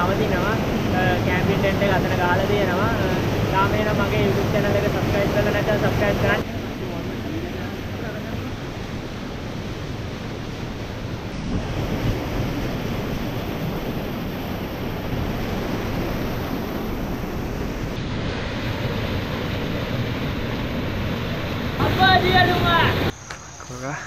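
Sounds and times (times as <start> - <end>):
waterfall rushing: 0.0 - 9.4, 11.6 - 23.1
wind rumbling on microphone: 0.0 - 23.7.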